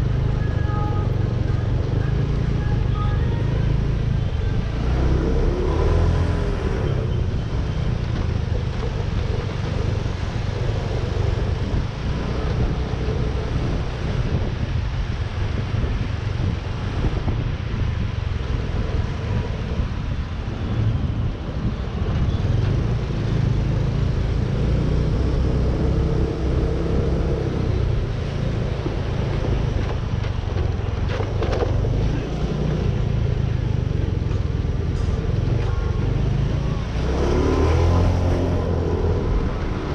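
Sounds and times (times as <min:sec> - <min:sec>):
city traffic noise: 0:00.0 - 0:39.9
motorcycle engine rumble: 0:00.0 - 0:39.9.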